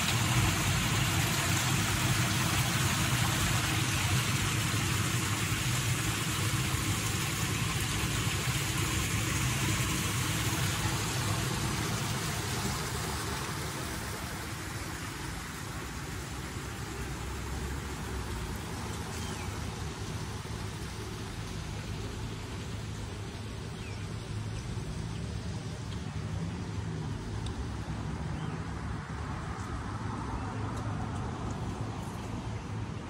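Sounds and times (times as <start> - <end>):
low engine hum: 0.0 - 33.0.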